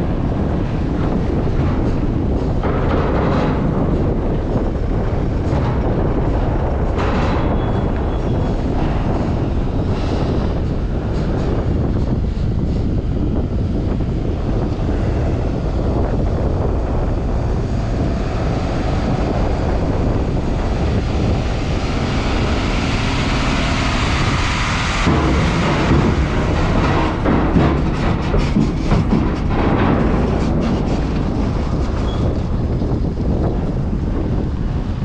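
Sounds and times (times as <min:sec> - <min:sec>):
truck engine and tyre noise: 0:00.0 - 0:35.0
wheels clattering over metal plates: 0:00.0 - 0:35.0
wind buffeting microphone: 0:00.0 - 0:35.0.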